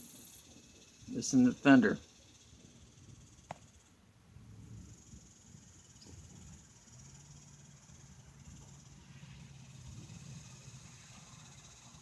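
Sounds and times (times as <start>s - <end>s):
high insect hiss: 0.0s - 12.0s.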